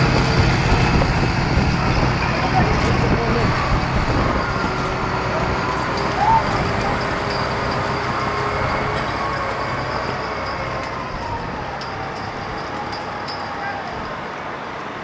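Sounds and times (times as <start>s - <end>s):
traffic noise: 0.0s - 15.0s.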